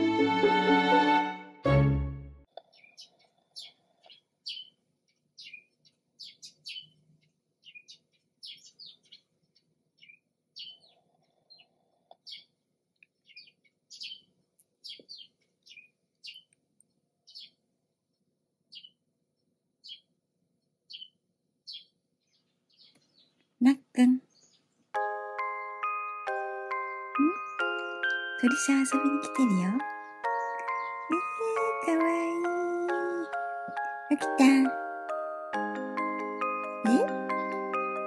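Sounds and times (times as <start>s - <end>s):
small bird chirping: 2.5s - 34.5s.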